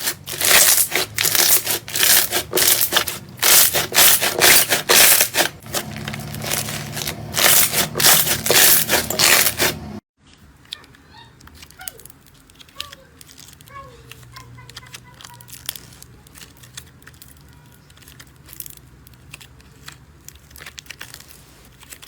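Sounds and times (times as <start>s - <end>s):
slime squishing and crackling: 0.0s - 9.8s, 11.5s - 22.0s.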